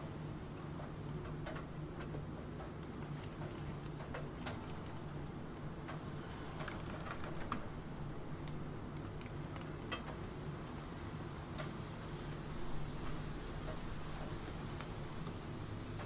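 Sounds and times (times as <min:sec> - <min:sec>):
low rain-like background noise: 0:00.0 - 0:16.0.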